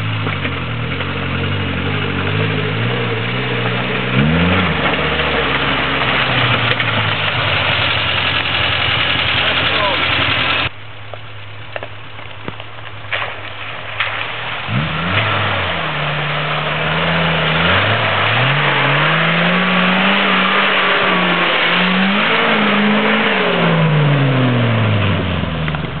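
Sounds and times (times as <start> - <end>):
car engine revving: 0.0 - 10.7, 13.0 - 26.0.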